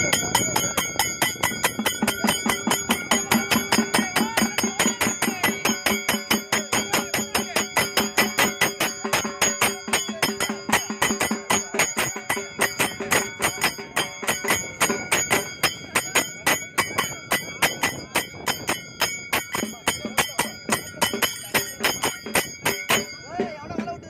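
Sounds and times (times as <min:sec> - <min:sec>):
metal hand bell ringing rapidly: 0:00.0 - 0:24.0.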